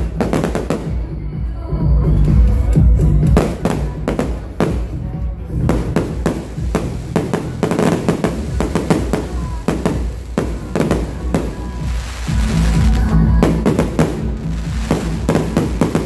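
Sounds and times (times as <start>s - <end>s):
fireworks bangs and crackles: 0.0s - 1.1s, 3.2s - 16.0s
loud music: 0.0s - 16.0s.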